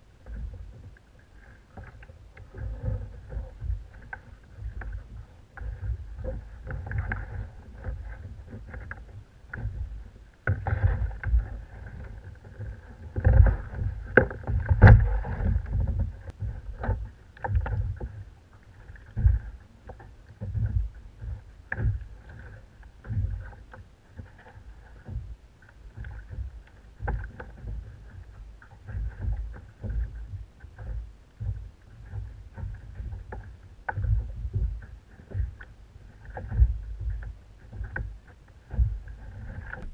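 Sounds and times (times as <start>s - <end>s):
water slapping against kayak hull: 0.0s - 39.9s.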